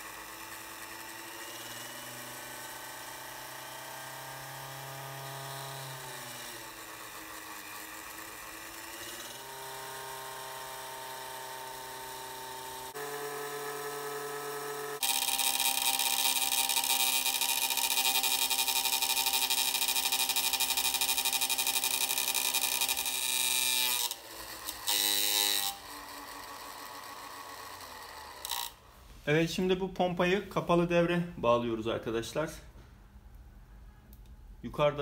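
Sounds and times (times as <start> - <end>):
electric motor whining hum: 0.0 - 28.8.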